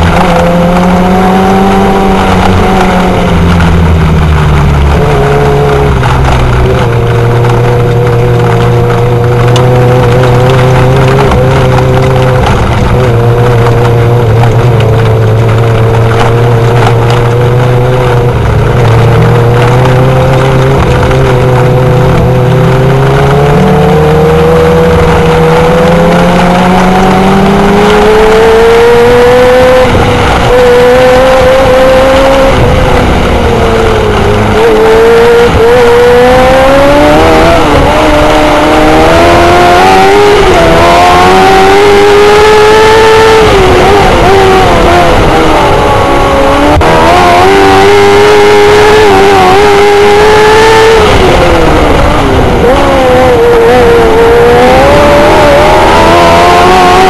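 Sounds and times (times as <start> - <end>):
racing engines revving: 0.0 - 57.0.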